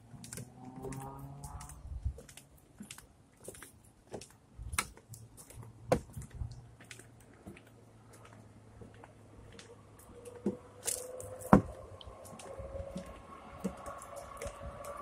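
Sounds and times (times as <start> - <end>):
footsteps crunching on path: 0.0 - 15.0.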